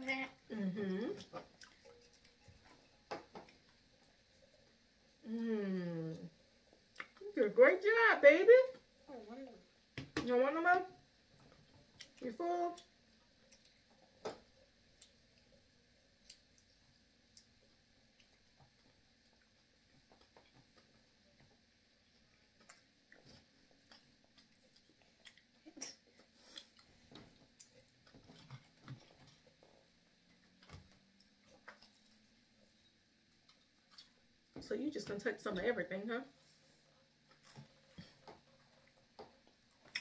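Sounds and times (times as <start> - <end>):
quiet chewing: 0.2 - 5.3, 6.1 - 7.3, 11.3 - 34.6, 36.3 - 40.0.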